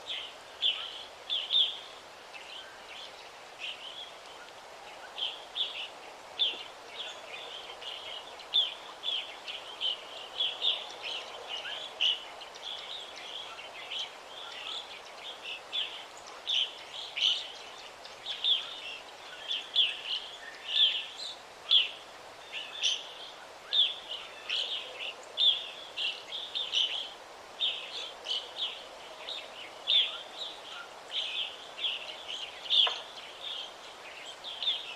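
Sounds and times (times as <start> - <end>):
faint steady hiss: 0.0 - 34.9
songbirds chirping: 0.1 - 34.9.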